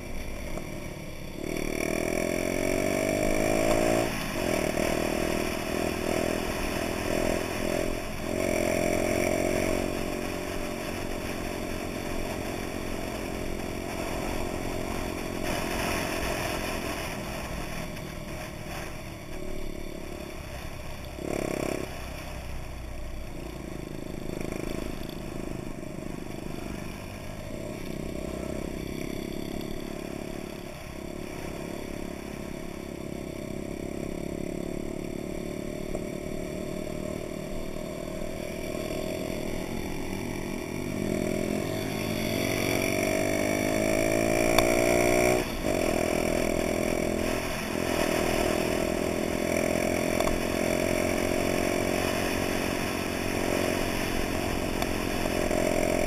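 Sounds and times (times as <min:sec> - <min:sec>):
moped engines revving: 0:00.0 - 0:56.0.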